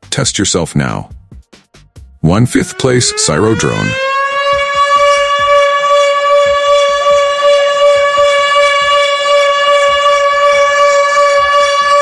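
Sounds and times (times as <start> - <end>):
siren droning steady tone: 2.3 - 12.0.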